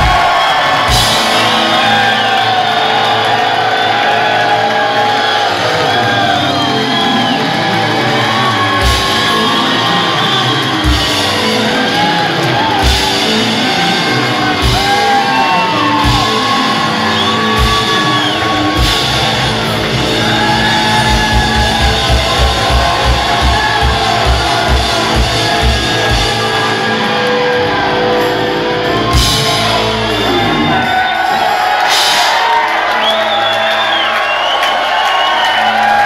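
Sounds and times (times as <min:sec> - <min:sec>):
bass guitar: 0:00.0 - 0:32.1
electric guitar: 0:00.0 - 0:33.2
drum kit: 0:00.0 - 0:36.0.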